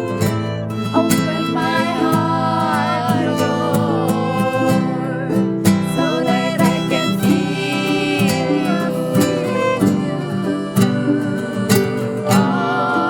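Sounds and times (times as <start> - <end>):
acoustic guitar chords: 0.0 - 13.0
sliding melody line: 0.0 - 13.0.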